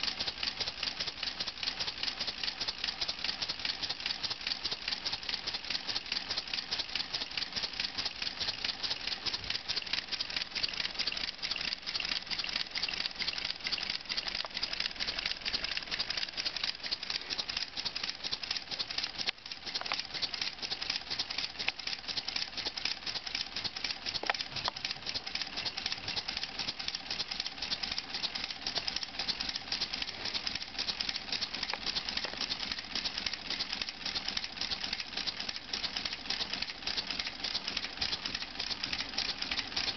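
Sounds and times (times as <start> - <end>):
pneumatic engine rattling clicks: 0.0 - 39.9.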